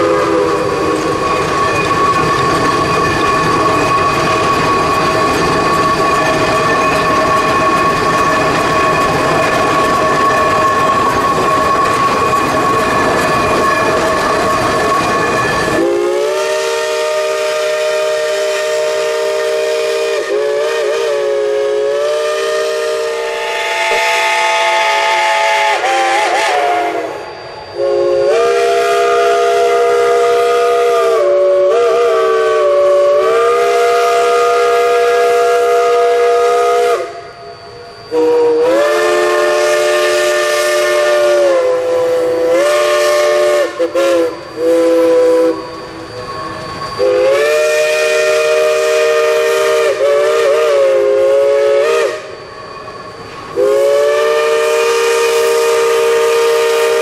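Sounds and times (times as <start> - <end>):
steam locomotive rumble and hiss: 0.0 - 57.0
steam whistles blasting: 0.0 - 57.0.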